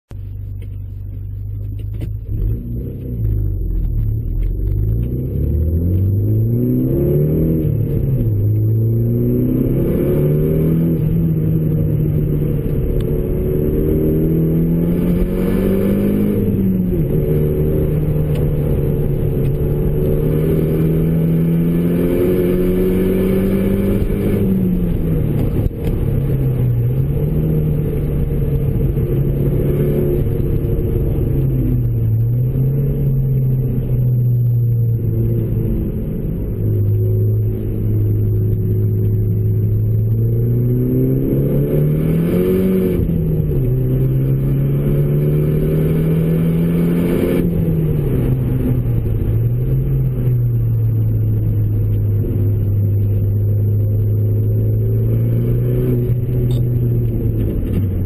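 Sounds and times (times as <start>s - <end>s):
car engine revving from inside cabin: 1.4s - 58.0s.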